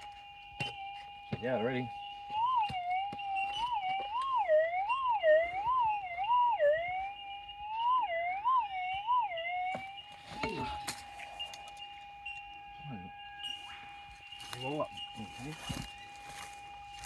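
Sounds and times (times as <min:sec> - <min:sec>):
metal detector warbling tone: 0:00.0 - 0:17.0.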